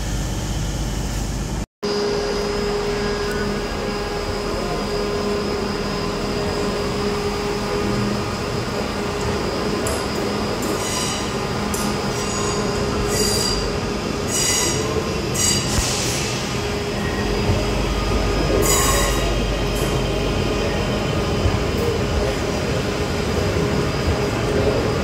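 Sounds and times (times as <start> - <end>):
train squealing: 1.9 - 25.0.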